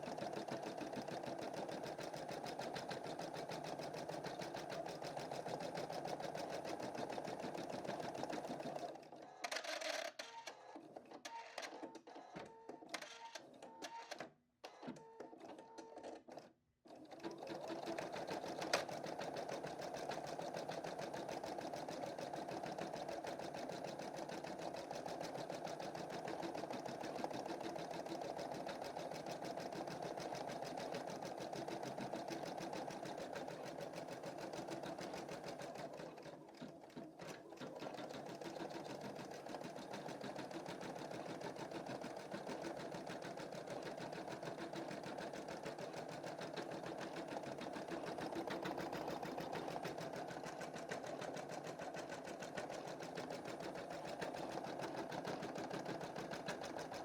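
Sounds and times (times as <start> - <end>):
embroidery machine stitching: 0.0 - 11.4, 15.2 - 57.0.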